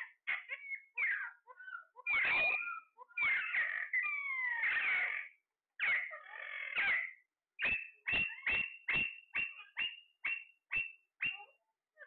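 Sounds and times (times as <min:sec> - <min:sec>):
parakeet squawking and screeching: 0:00.0 - 0:12.0.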